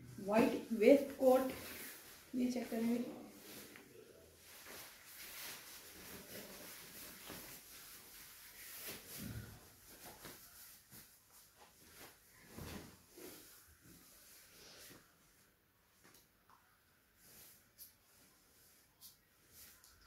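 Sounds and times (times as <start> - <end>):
clothing rustling: 0.1 - 20.0.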